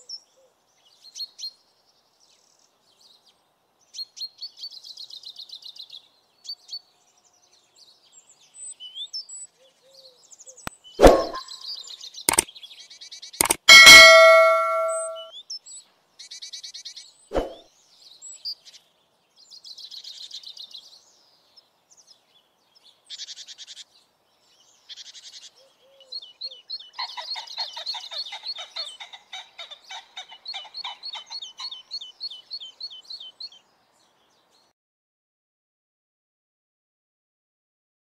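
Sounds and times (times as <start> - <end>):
songbirds singing trilled phrases: 0.1 - 34.7.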